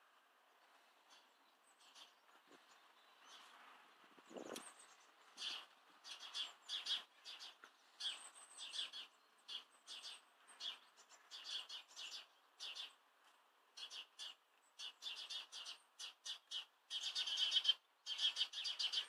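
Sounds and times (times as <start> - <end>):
small birds chirping: 0.6 - 13.1, 13.7 - 19.0.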